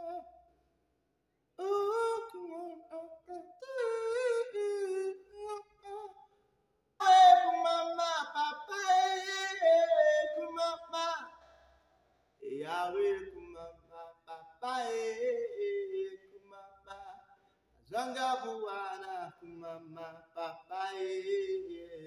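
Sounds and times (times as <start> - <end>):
man singing in puppet voice: 0.0 - 0.3, 1.6 - 6.2, 7.0 - 11.4, 12.4 - 17.3, 17.9 - 22.0
man singing: 0.0 - 0.4, 1.6 - 6.2, 7.0 - 11.4, 12.4 - 22.0.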